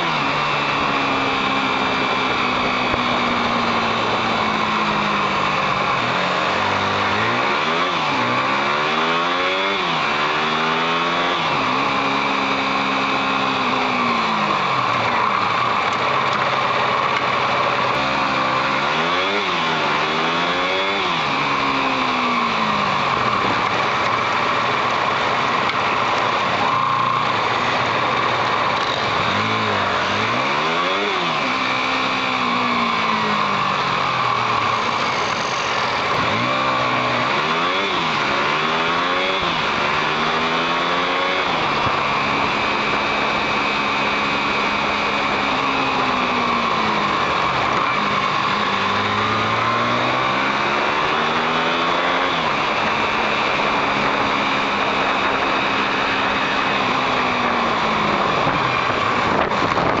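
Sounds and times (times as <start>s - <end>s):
motorcycle engine accelerating: 0.0s - 60.0s
wind and road noise: 0.0s - 60.0s.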